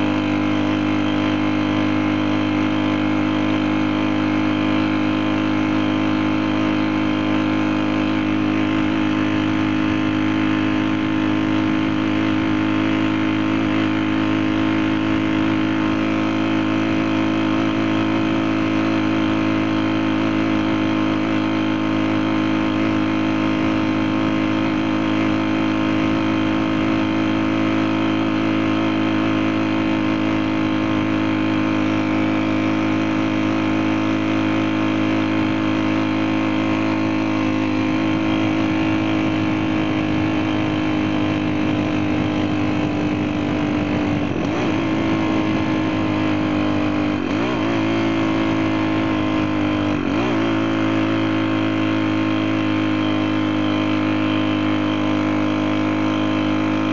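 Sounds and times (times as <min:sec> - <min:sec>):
small engine running steadily: 0:00.0 - 0:56.9.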